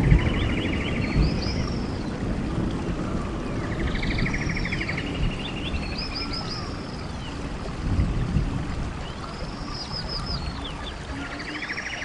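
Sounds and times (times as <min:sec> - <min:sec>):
waterfall and rain rushing: 0:00.0 - 0:12.0.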